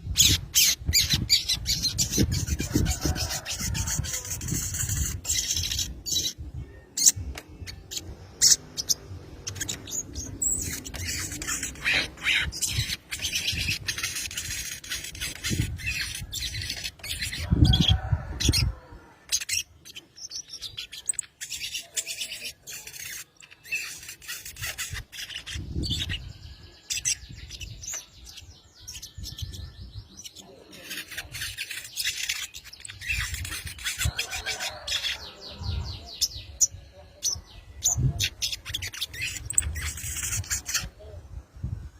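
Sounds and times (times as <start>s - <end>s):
bird chipping and chattering: 0.0s - 41.7s.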